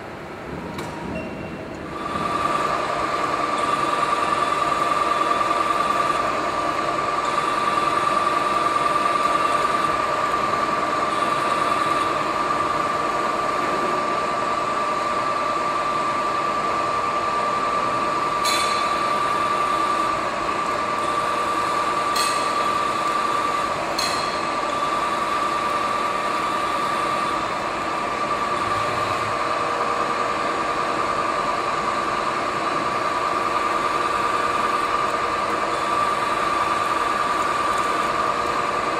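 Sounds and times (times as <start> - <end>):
steady high whine: 0.0 - 38.9
milling machine running: 1.8 - 38.9.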